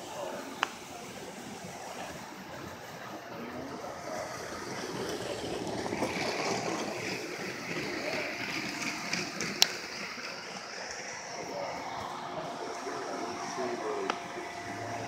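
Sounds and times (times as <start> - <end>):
distant voices: 0.0 - 15.0
room noise: 0.0 - 15.0.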